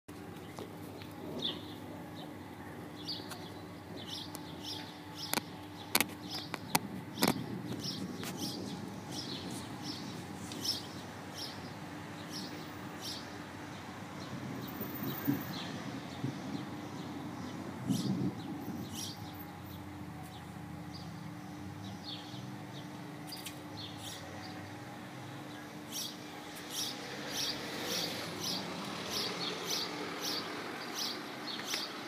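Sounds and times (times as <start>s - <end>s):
small birds chirping: 0.4s - 32.0s.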